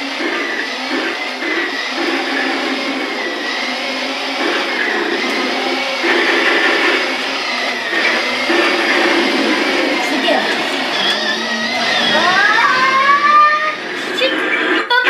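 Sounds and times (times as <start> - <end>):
toy tank motor whirring: 0.0 - 15.0.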